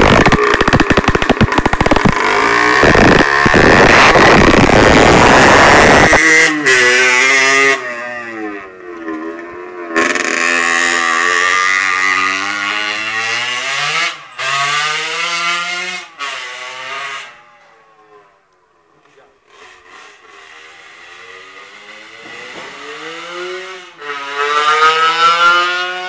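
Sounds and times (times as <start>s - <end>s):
two-stroke motorcycle engine revving: 0.0s - 17.6s, 19.4s - 26.0s.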